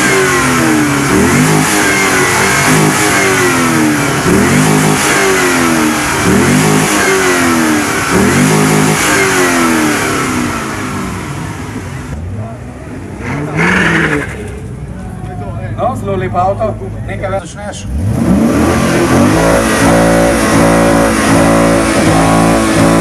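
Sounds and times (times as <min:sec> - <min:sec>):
car engine revving: 0:00.0 - 0:14.9, 0:16.3 - 0:23.0.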